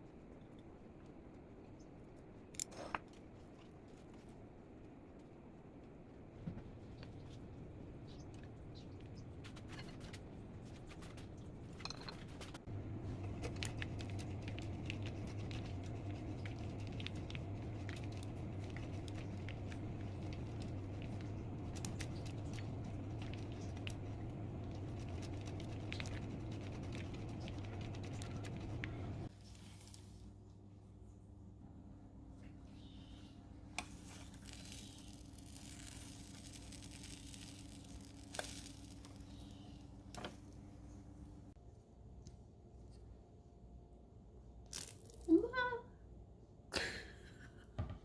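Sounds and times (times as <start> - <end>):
steady low hum: 0.0 - 44.6.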